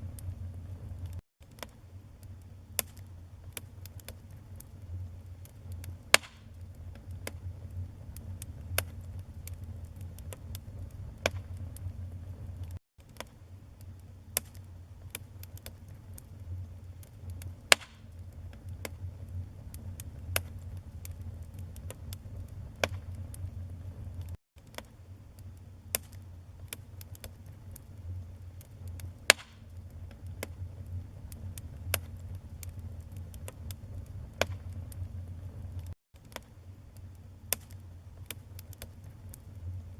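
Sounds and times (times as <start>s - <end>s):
fire crackles and pops: 0.0s - 39.9s
wood fire flame rumble: 0.0s - 39.9s.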